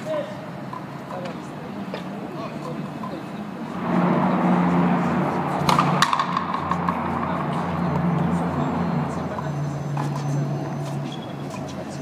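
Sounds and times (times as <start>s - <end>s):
steady low hum: 0.4s - 11.0s.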